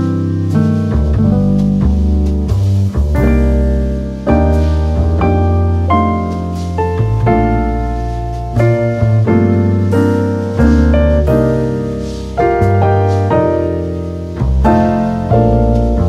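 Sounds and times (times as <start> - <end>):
piano instrumental with bass: 0.0 - 16.0.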